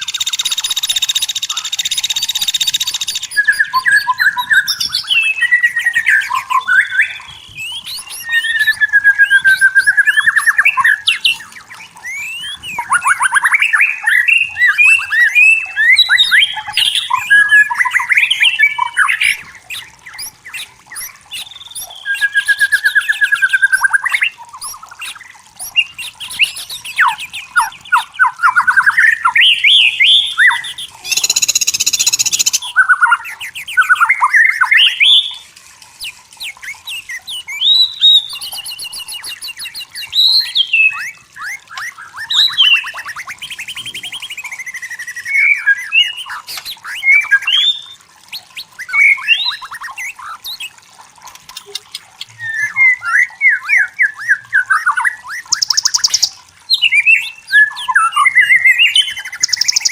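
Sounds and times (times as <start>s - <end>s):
bird singing whistled phrases: 0.0s - 35.4s, 36.0s - 50.8s, 51.6s - 59.9s.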